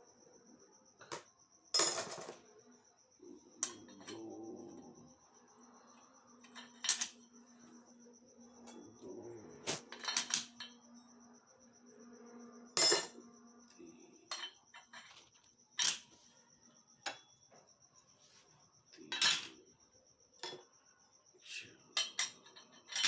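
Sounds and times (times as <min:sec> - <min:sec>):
faint high whine: 0:00.0 - 0:22.6.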